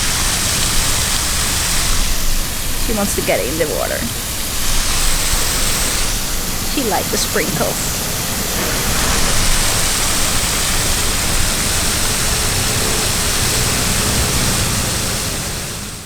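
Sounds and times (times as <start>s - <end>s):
water spraying and splashing: 0.0s - 7.1s, 8.0s - 15.9s.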